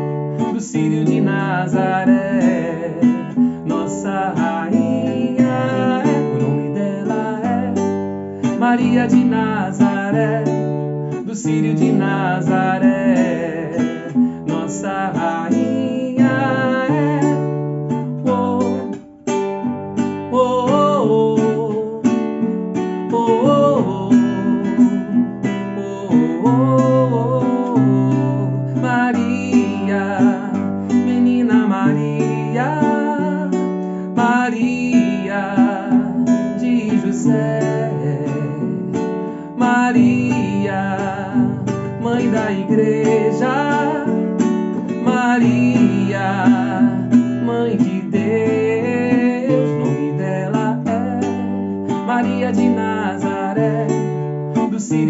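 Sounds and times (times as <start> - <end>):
man singing: 0.0 - 19.4, 20.1 - 55.0
strummed acoustic guitar: 0.0 - 55.0.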